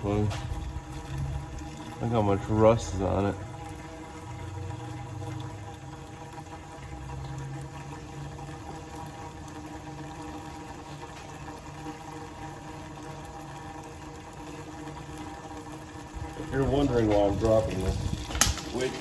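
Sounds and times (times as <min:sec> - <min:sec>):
gasoline pouring into container: 0:00.0 - 0:19.0
mechanical hum: 0:00.0 - 0:19.0.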